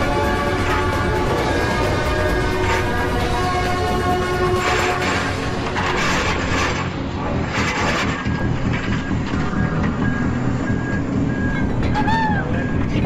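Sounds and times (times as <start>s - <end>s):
excavator engine running: 0.0s - 13.0s
excavator tracks clanking: 0.0s - 13.0s.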